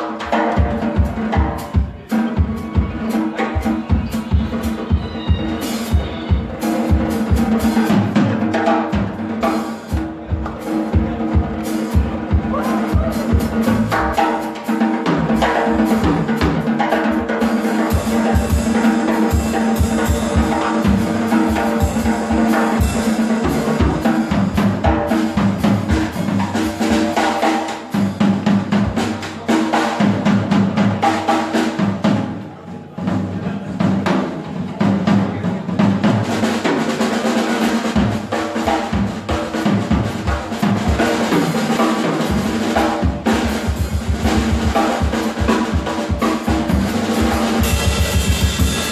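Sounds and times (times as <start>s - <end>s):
live band playing: 0.0s - 48.9s
snare and bass drum rolls: 0.0s - 48.9s.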